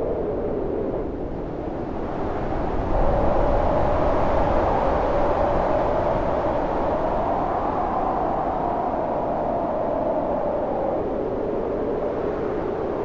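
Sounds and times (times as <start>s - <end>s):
storm wind howling: 0.0s - 13.0s.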